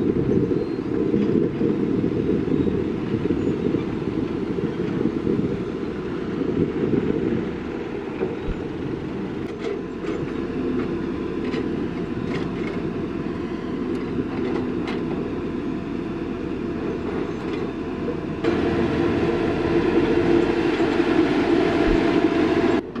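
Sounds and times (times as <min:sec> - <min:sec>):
heavy construction machinery running: 0:00.0 - 0:23.0.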